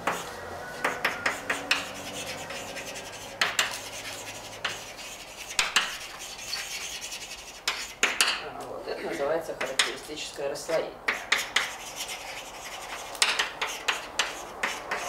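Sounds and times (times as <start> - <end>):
chalk scratching strokes: 0.0 - 8.2, 11.1 - 15.0
chalk tapping on blackboard: 0.0 - 8.4, 9.6 - 10.1, 11.1 - 15.0.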